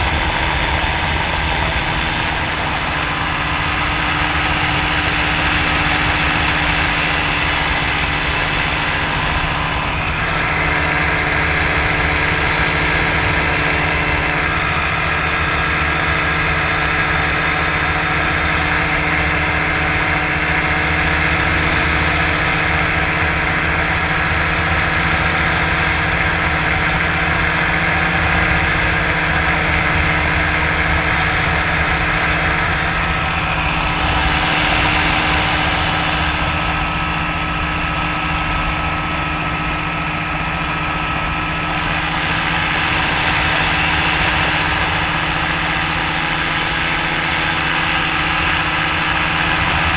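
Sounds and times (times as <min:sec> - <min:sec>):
ultralight engine running: 0:00.0 - 0:49.9.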